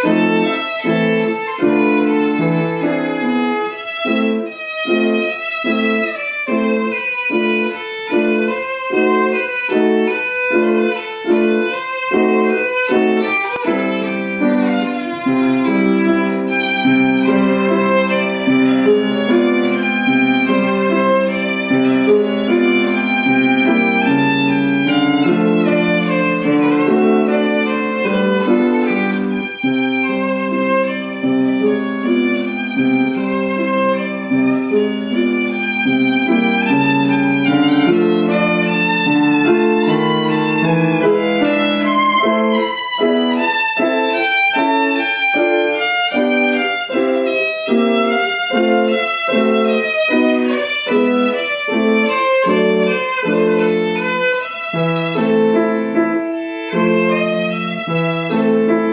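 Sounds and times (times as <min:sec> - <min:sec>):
violin playing classical melody: 0:00.0 - 0:58.9.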